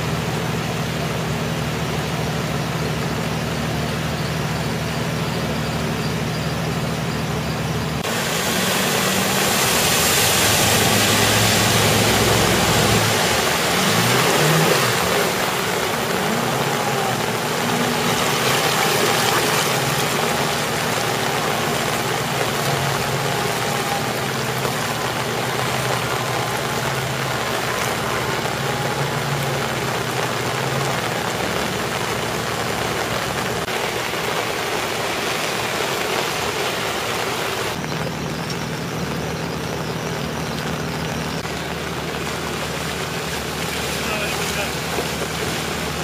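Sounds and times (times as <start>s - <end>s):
car engines running low: 0.0s - 46.0s
rain hissing: 0.0s - 46.0s
running water: 0.0s - 46.0s
water swishing around wheels: 0.0s - 46.0s.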